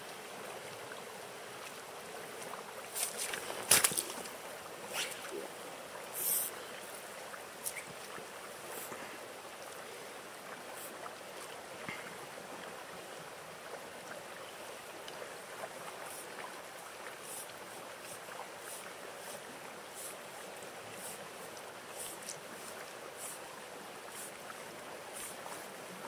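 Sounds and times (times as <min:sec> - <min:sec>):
flowing river water: 0:00.0 - 0:26.0.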